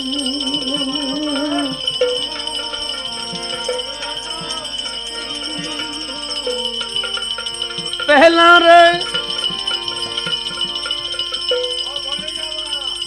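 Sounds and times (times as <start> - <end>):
jingling percussion: 0.0 - 13.0
sustained melody notes: 0.0 - 13.0.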